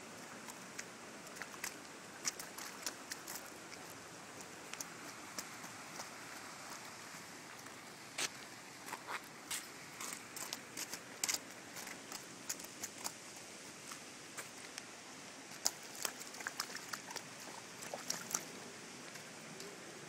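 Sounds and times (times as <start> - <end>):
boots splashing in puddle: 0.5 - 14.7, 15.5 - 19.3.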